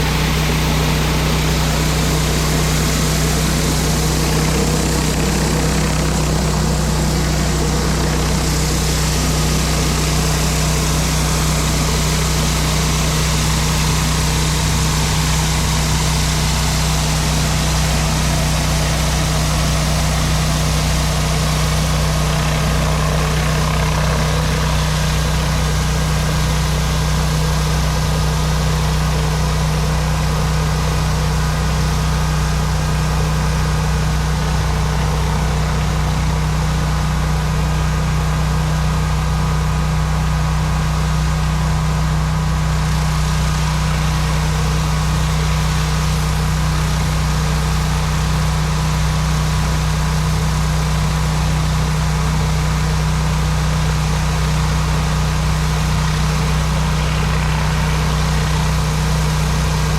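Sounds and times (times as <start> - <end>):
water spraying on concrete: 0.0 - 37.8, 41.1 - 59.9
pressure washer engine drone: 0.0 - 59.9.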